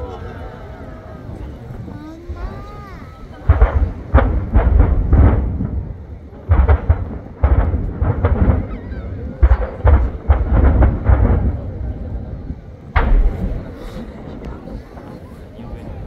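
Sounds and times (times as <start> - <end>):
firework shells booming: 1.3 - 16.0.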